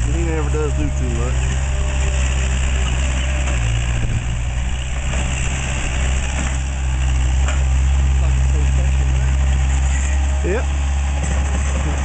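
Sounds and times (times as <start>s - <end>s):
track loader diesel engine: 0.0s - 12.0s.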